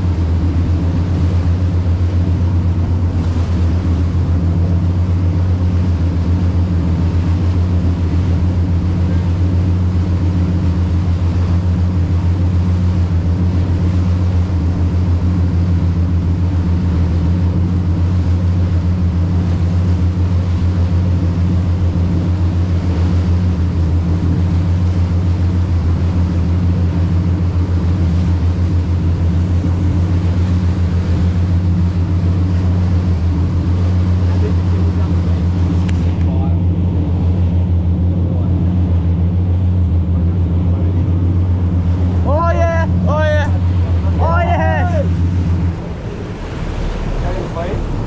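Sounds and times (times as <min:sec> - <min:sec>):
boat engine droning: 0:00.0 - 0:48.0
churning wake rushing: 0:00.0 - 0:48.0.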